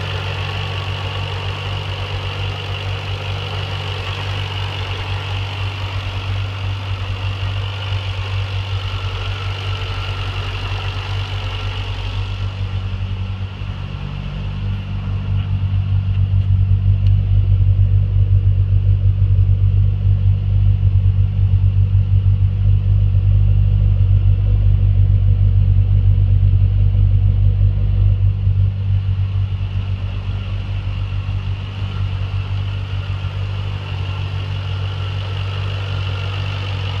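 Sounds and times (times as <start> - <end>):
car engine idling: 0.0 - 37.0
supercharger whine: 0.0 - 37.0.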